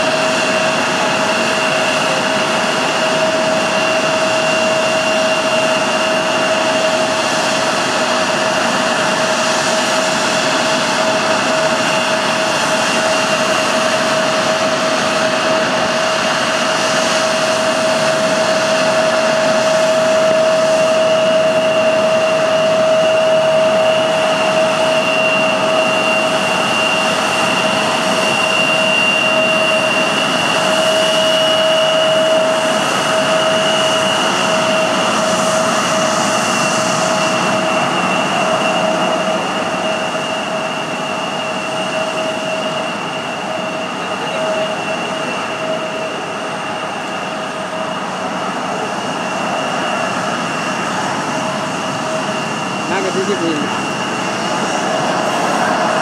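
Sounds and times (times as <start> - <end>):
jet engines running with whine: 0.0 - 56.0.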